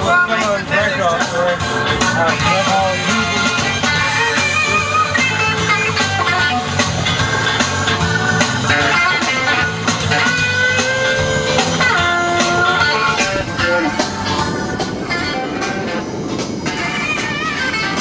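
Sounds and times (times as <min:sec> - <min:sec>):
guitar-led music: 0:00.0 - 0:18.0.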